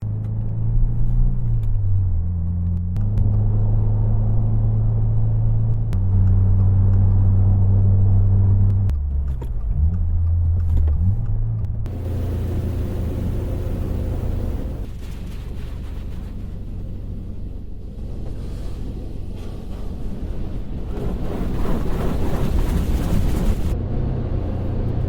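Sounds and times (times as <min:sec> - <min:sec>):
car engine drone: 0:00.0 - 0:25.0.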